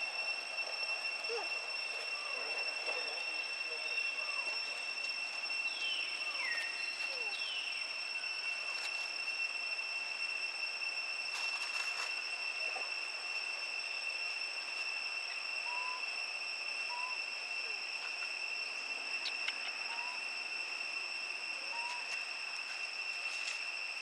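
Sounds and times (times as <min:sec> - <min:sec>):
faint rising chirps: 0:00.0 - 0:24.0
high-pitched insect drone: 0:00.0 - 0:24.0.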